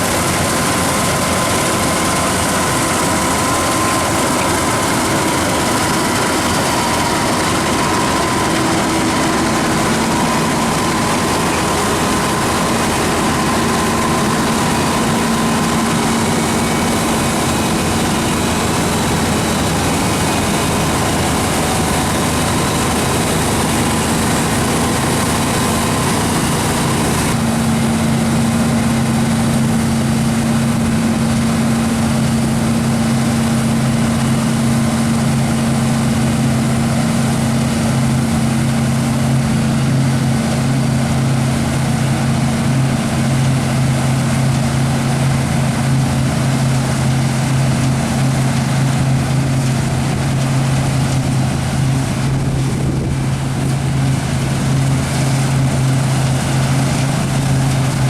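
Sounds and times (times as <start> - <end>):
diesel machinery engine hum: 0.0 - 58.0.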